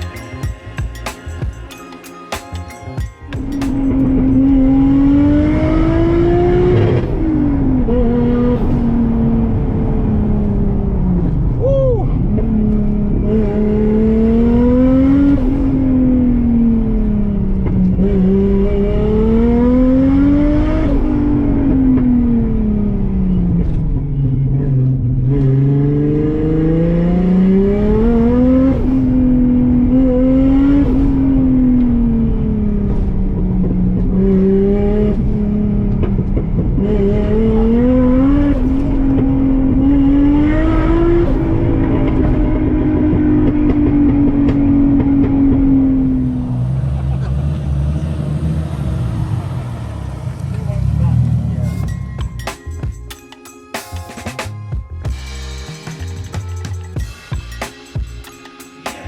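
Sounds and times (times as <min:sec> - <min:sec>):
car engine revving: 0:02.6 - 0:53.0.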